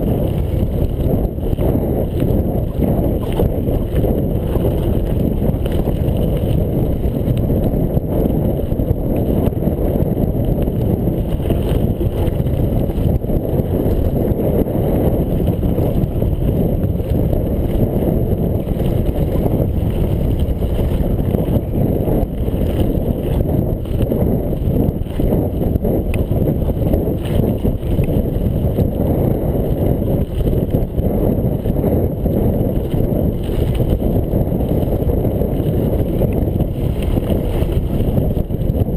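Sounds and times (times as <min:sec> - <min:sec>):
bike tyres rolling on gravel: 0:00.0 - 0:38.9
wind buffeting microphone: 0:00.0 - 0:38.9.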